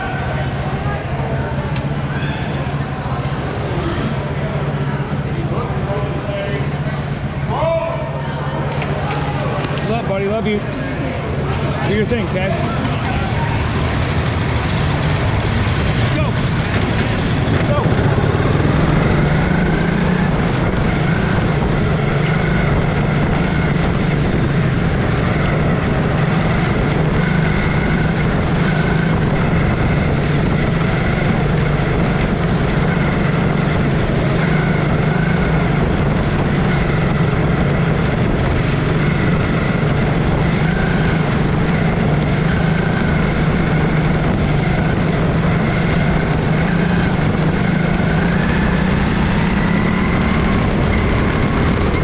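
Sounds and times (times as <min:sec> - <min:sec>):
racing engines droning and whining: 0:00.0 - 0:52.0.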